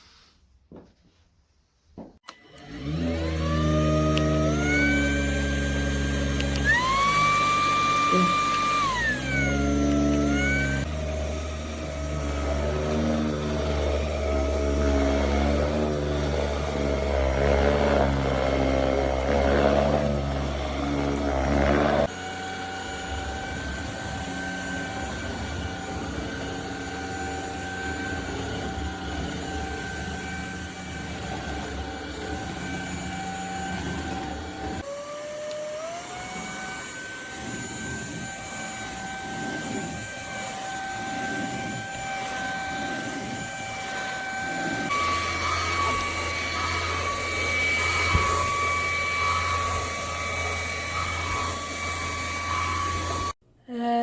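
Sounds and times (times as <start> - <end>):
vacuum motor whining: 2.2 - 53.4.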